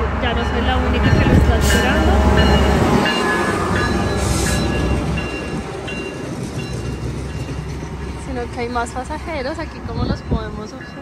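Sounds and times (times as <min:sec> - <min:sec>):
diesel locomotive rumbling past: 0:00.0 - 0:11.0
train cars rolling by: 0:00.0 - 0:11.0.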